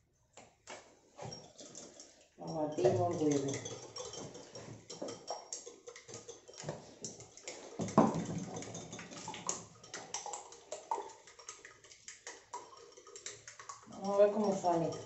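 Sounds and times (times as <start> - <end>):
fork beating egg in glass bowl: 1.2 - 15.0.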